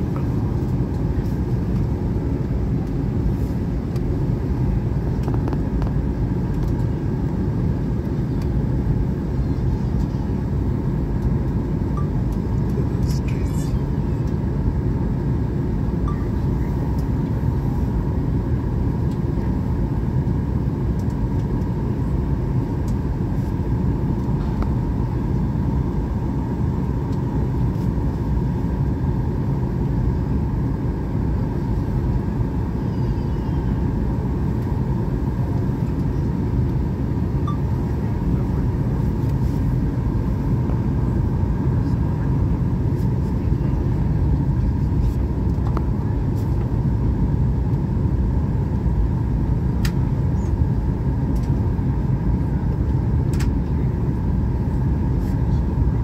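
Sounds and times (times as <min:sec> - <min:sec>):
engines and rushing air rumble: 0:00.0 - 0:56.0
faint steady hum: 0:00.0 - 0:56.0.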